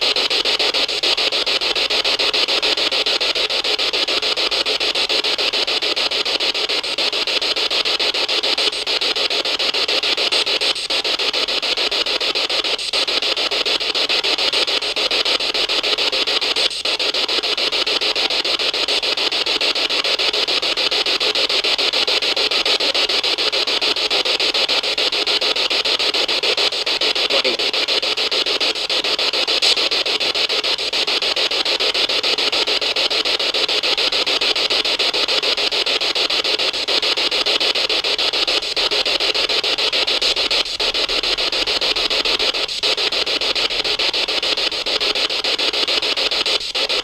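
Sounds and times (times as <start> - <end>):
radio static hiss with flutter: 0.0 - 47.0.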